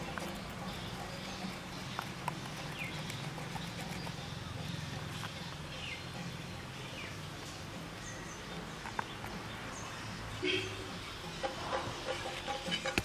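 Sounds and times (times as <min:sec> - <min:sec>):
bird chirps: 0:00.0 - 0:12.7.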